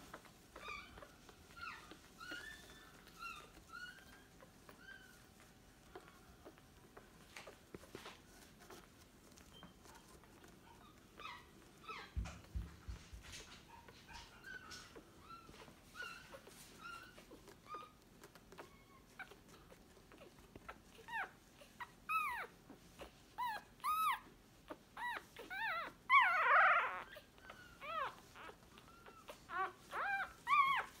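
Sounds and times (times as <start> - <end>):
puppies squeaking and whimpering: 0.0 - 31.0.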